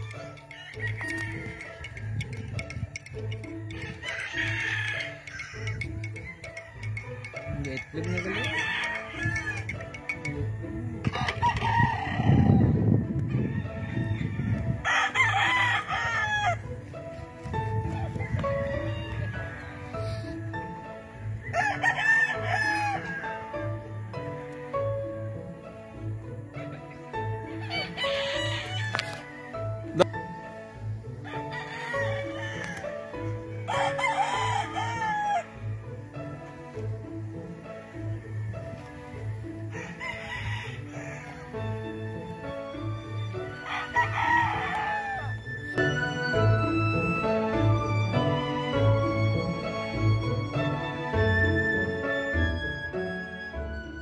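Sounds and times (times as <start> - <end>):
background music with beat: 0.0 - 13.3, 14.8 - 54.0
roosters crowing: 0.0 - 24.5, 27.2 - 54.0.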